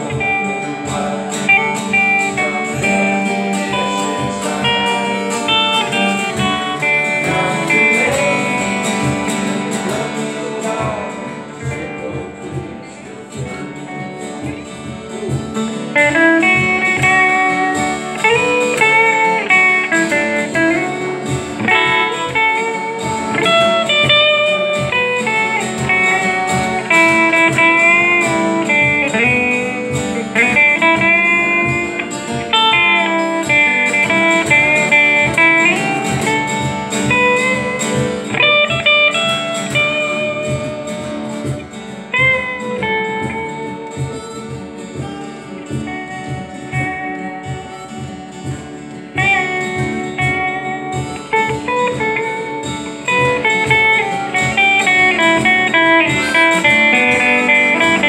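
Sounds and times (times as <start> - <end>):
acoustic guitar playing blues: 0.0 - 58.0.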